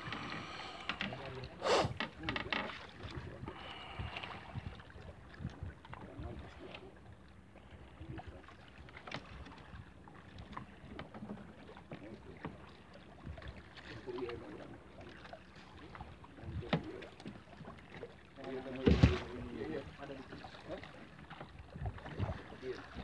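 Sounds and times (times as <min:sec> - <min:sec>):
water lapping at hull: 0:00.0 - 0:23.0.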